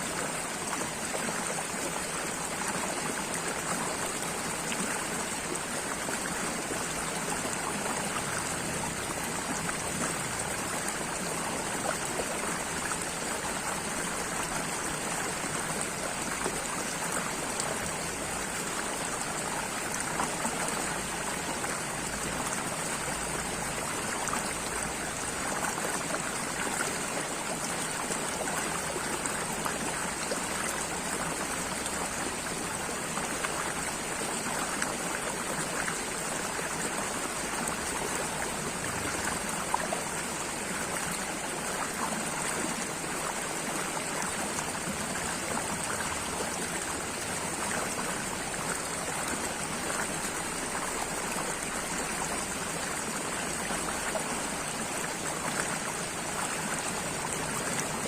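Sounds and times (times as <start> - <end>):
stream water babbling: 0.0 - 58.0.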